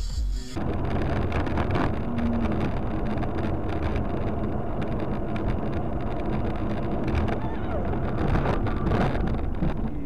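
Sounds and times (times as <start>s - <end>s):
car road and engine rumble: 0.0s - 10.0s
wind buffeting microphone: 0.6s - 10.0s.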